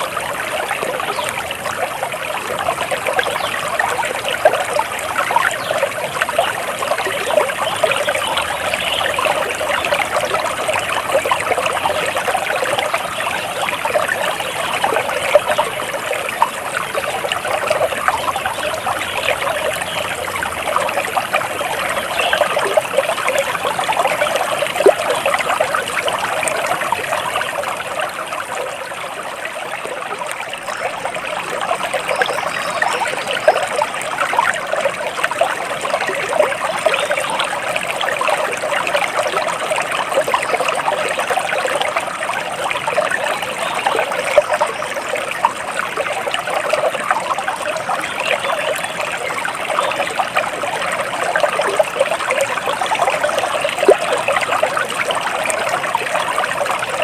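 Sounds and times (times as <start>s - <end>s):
stream babbling: 0.0s - 57.0s.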